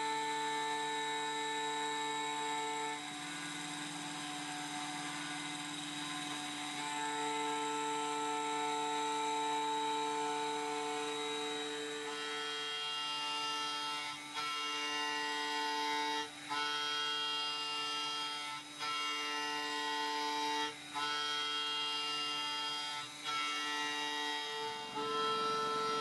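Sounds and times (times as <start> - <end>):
milling machine cutting metal whine: 0.0 - 26.0.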